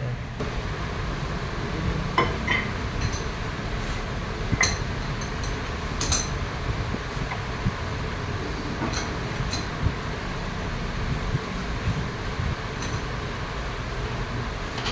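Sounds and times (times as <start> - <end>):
low machine hum: 0.0 - 14.9.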